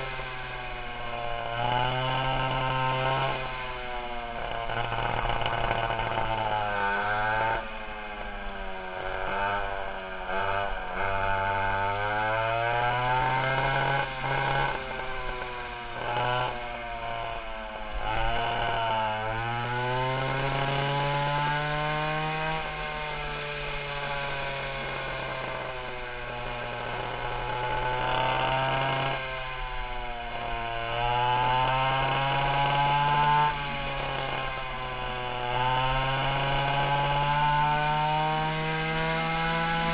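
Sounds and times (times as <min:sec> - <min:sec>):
two-stroke go-kart engines revving: 0:00.0 - 0:39.9.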